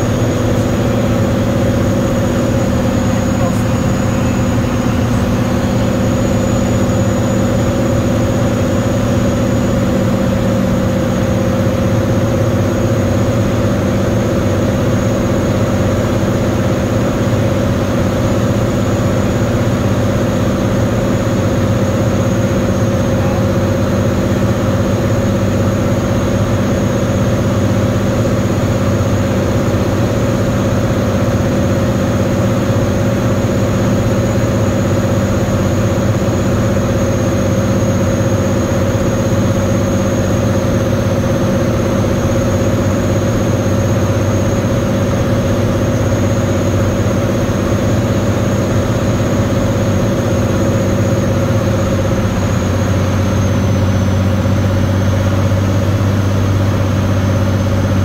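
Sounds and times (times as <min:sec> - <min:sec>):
propeller airplane engine droning: 0:00.0 - 0:58.0.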